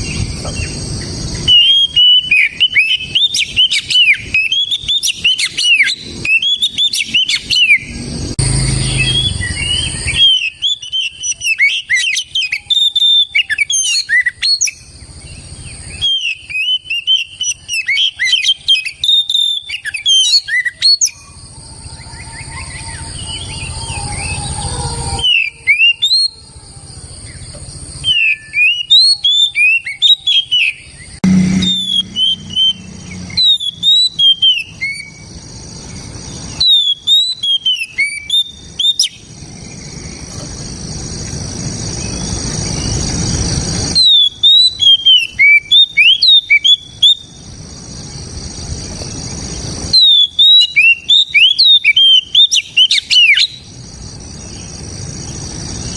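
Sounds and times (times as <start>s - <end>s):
bird singing whistled notes: 0.0s - 26.4s, 27.2s - 40.5s, 41.9s - 47.5s, 48.8s - 55.9s.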